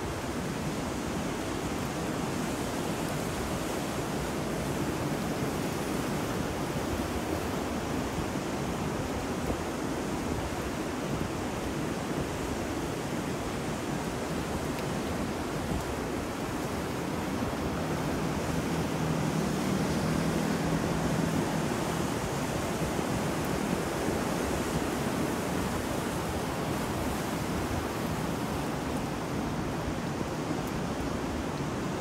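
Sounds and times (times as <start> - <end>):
ocean surf: 0.0 - 32.0
rain: 0.0 - 32.0
wind: 0.0 - 32.0.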